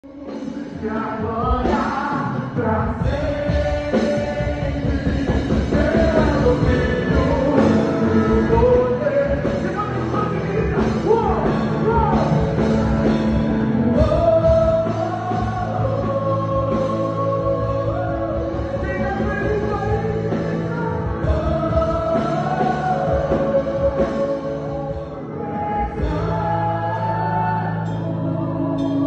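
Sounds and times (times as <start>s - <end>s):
band playing worship music: 0.0s - 29.0s
man singing into microphone: 0.0s - 29.0s.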